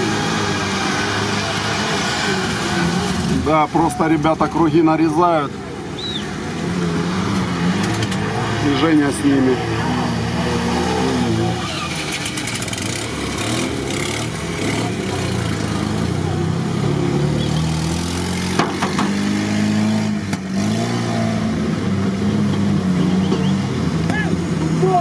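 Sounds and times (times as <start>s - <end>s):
off-road car engines revving: 0.0s - 25.0s.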